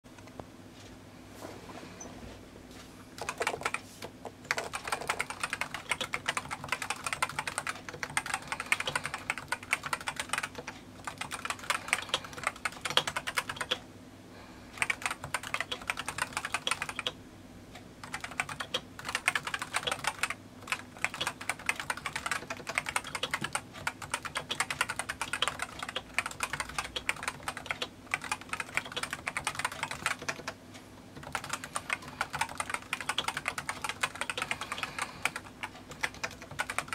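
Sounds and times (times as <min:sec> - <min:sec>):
keyboard typing: 0:03.1 - 0:13.8, 0:14.8 - 0:17.2, 0:18.0 - 0:30.6, 0:31.2 - 0:36.9.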